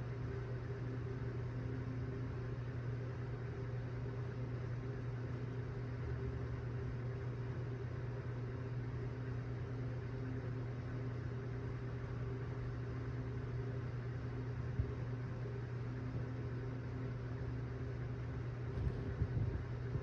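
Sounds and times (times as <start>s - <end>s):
steady low hum with hiss: 0.0s - 20.0s.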